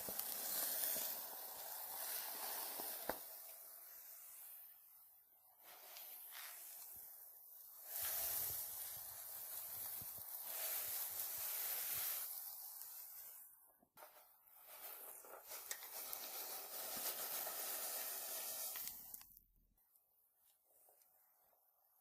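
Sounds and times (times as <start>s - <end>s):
steady hissing noise: 0.0s - 19.3s.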